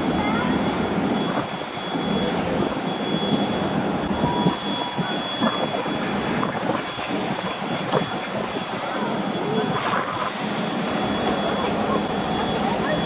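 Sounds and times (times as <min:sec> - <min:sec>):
thin high whine: 0:00.2 - 0:13.0.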